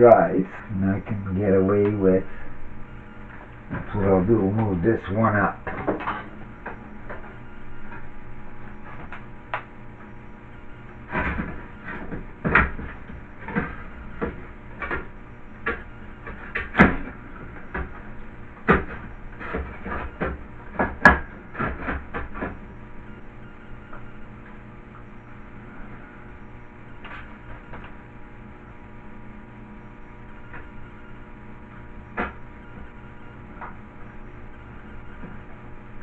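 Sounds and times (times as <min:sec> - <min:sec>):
hard drive clicks and scrapes: 0:00.0 - 0:36.0.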